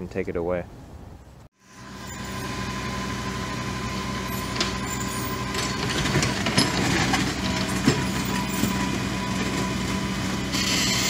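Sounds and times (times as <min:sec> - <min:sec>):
truck engine running: 0:01.6 - 0:11.0.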